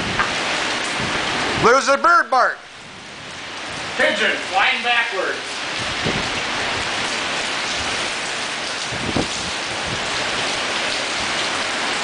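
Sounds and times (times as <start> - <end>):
driving rain: 0.0 - 12.0
gusting wind: 0.0 - 12.0.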